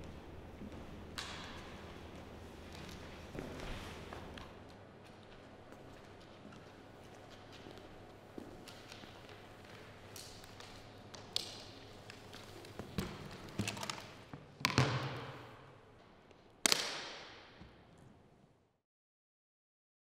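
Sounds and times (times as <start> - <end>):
footsteps in reverberant hall: 0.0 - 18.7.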